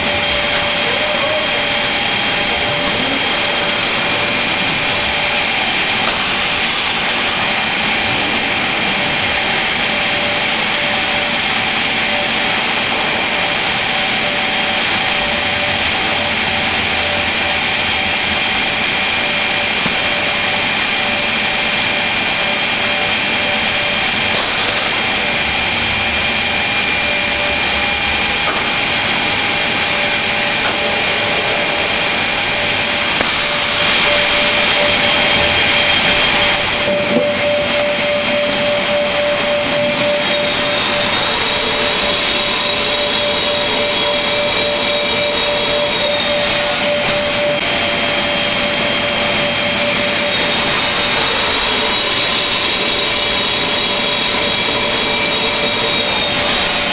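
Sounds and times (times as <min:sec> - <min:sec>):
board-cutting machine whining: 0:00.0 - 0:56.9.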